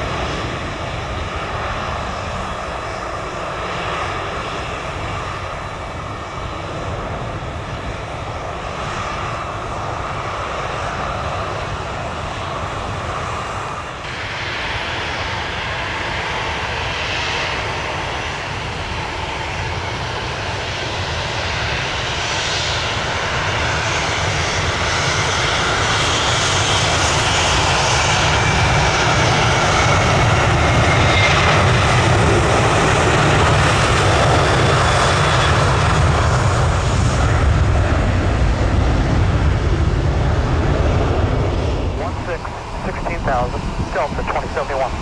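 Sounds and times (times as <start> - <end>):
airliner engines rushing: 0.0 - 45.0.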